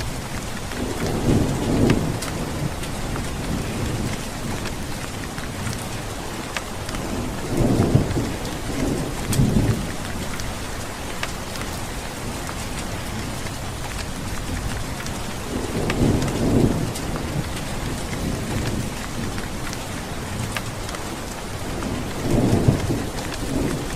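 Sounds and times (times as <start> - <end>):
heavy rain: 0.0 - 23.9
thunder rumbling: 0.0 - 23.9.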